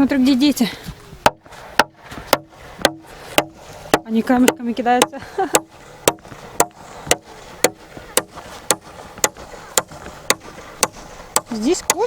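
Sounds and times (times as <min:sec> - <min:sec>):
hammer driving nails into wood: 0:01.2 - 0:04.6, 0:05.5 - 0:12.0.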